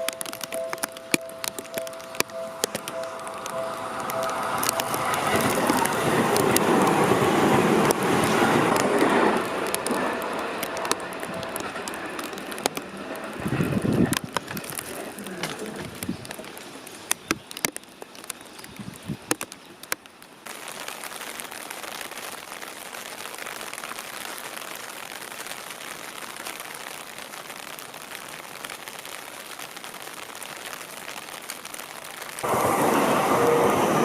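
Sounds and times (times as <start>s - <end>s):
sharp ticks and drips: 0.0s - 32.5s
steady rain falling: 0.0s - 34.0s.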